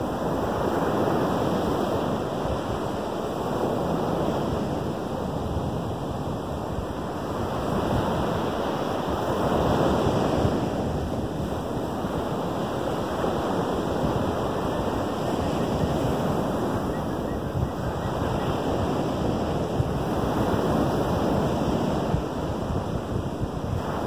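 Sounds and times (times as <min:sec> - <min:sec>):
waves breaking on sandy beach: 0:00.0 - 0:24.0.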